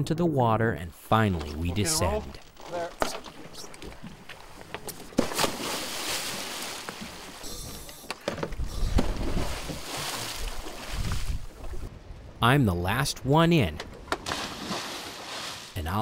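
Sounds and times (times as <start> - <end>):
water splashing and sloshing: 1.2 - 12.4, 13.8 - 15.8.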